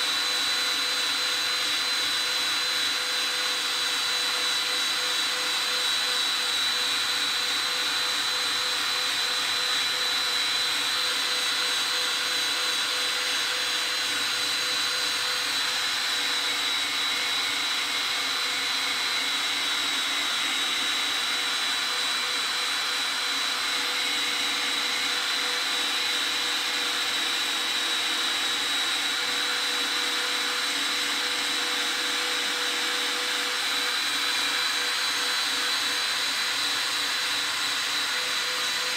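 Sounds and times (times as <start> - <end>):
cordless drill whining: 0.0 - 38.9.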